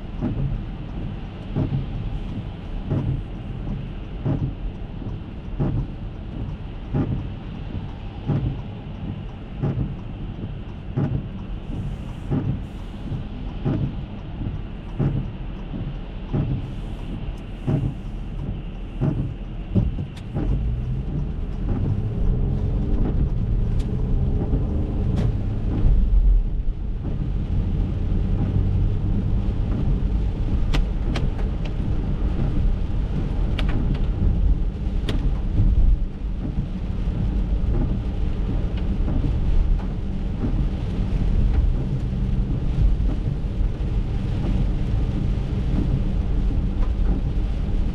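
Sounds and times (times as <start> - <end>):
rain pattering on car roof: 0.0 - 47.9
tyres rumbling on wet road: 0.0 - 47.9
windshield wipers sweeping: 0.0 - 47.9.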